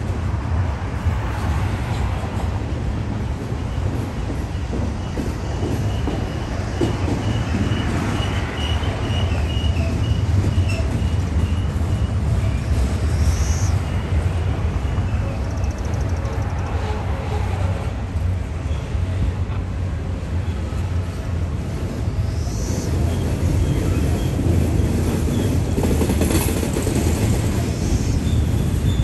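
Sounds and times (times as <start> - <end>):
freight train rumbling on rails: 0.0 - 29.0.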